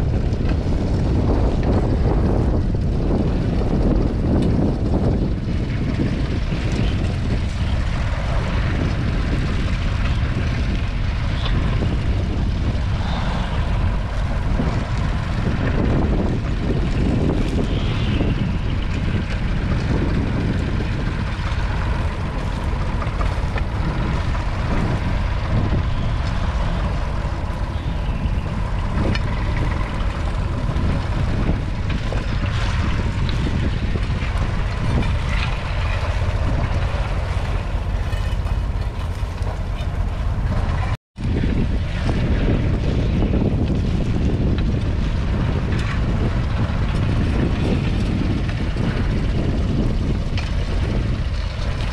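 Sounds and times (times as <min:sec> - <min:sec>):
diesel tractor engine under load: 0:00.0 - 0:51.9.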